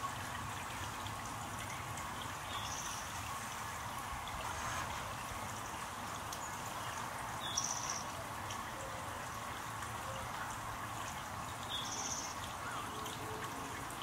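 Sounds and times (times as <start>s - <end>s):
fountain splashing and trickling: 0.0s - 14.0s.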